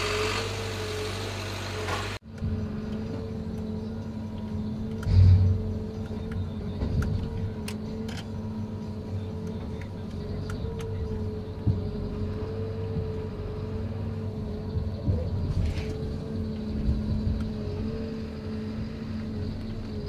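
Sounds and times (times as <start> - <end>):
engine drone with whine: 0.0 - 20.0.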